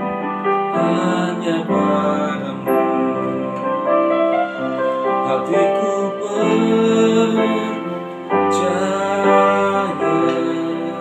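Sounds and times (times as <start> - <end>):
soft piano chords: 0.0 - 11.0
man singing: 0.7 - 3.9, 5.2 - 11.0.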